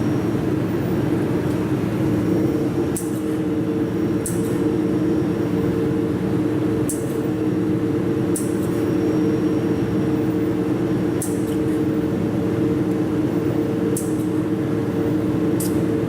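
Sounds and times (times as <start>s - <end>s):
welding machine humming: 0.0s - 16.0s.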